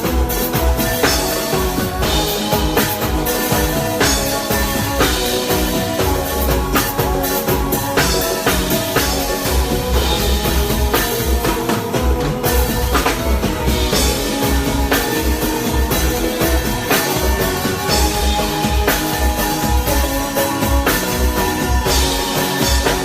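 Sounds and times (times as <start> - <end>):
drum kit hits: 0.0 - 23.0
guitar: 0.0 - 23.0
live band playing: 0.0 - 23.0
pulsing bass line: 0.0 - 23.0.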